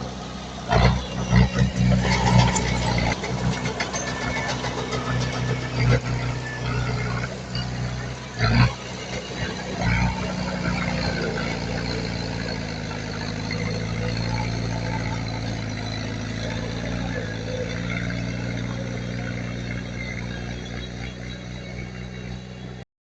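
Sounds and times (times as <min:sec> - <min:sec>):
heavy diesel engine running: 0:00.0 - 0:22.8.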